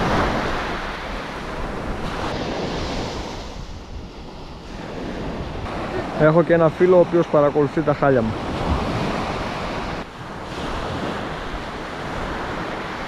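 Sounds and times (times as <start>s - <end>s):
small waves washing onto sand: 0.0s - 13.0s
wind rumbling on microphone: 0.0s - 13.0s.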